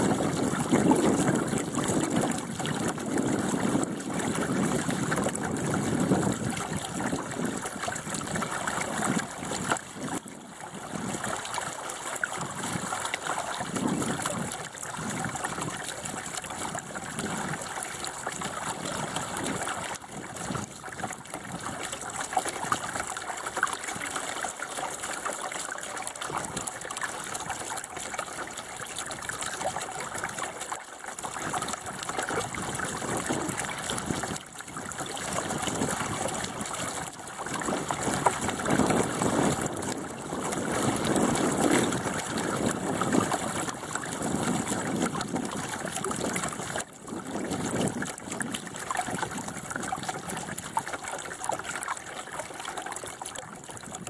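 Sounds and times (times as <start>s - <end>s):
water rushing along hull: 0.0s - 54.0s.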